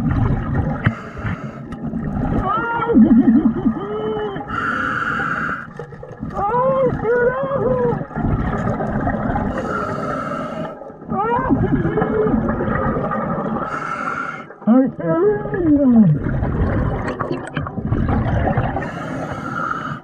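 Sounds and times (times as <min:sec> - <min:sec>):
exhaled bubbles hissing underwater: 0:00.0 - 0:14.6, 0:15.8 - 0:20.0.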